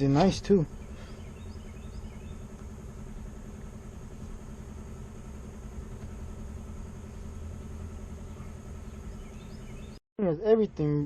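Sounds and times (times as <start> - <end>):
car engine idling: 0.6 - 10.0.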